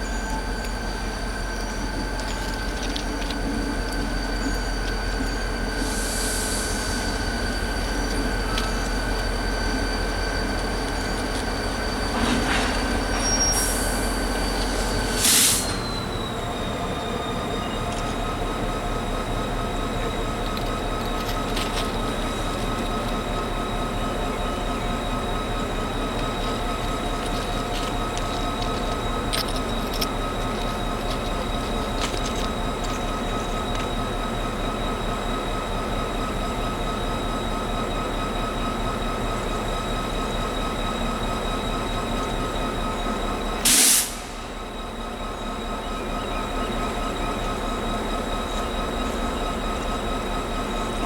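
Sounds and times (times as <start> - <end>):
train wheels and brakes squealing: 0.0 - 51.0.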